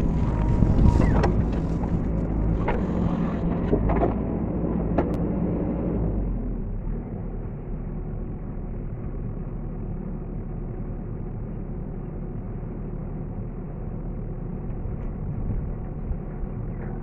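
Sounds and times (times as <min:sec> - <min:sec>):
diesel engine idling: 0:00.0 - 0:05.0, 0:06.0 - 0:17.0.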